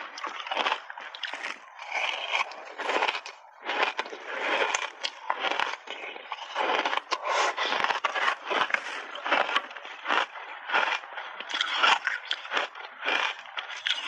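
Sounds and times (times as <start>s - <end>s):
chewing and crunching ice: 0.0s - 14.0s.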